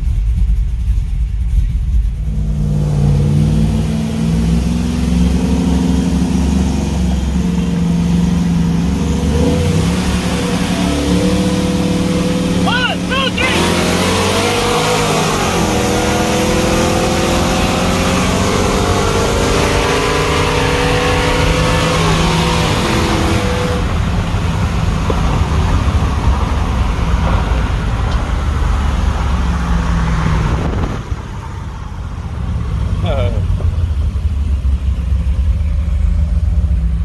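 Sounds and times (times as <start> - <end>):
pickup engine accelerating: 0.0 - 37.0
wind and road noise: 0.0 - 37.0.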